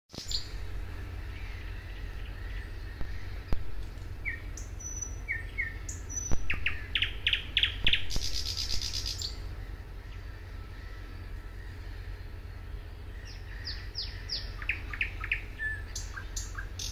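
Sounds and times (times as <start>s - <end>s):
bird singing: 0.1s - 16.9s.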